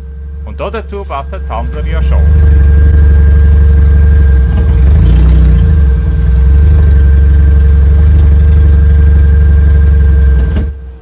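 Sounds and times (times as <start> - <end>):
engine deep rumble: 0.0 - 11.0
thin steady whine: 0.0 - 11.0.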